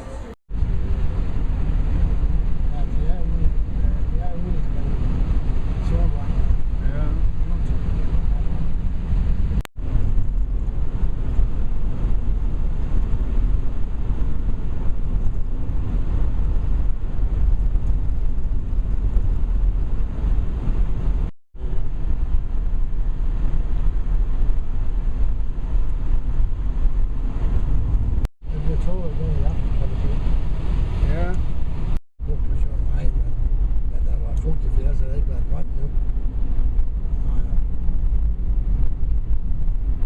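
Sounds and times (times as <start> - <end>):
vehicle rumbling: 0.0 - 40.0.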